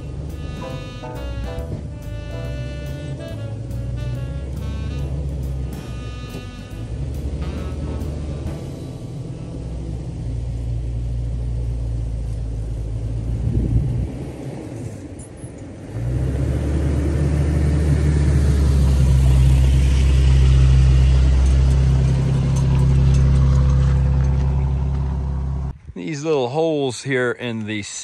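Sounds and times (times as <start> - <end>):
pickup truck engine droning: 0.0 - 25.7.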